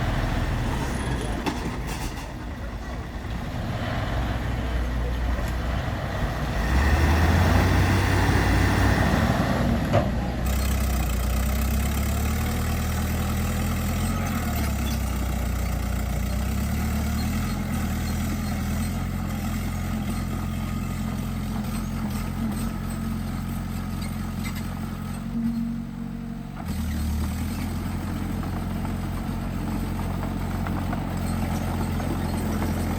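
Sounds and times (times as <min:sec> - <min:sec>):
bulldozer diesel engine working: 0:00.0 - 0:32.9.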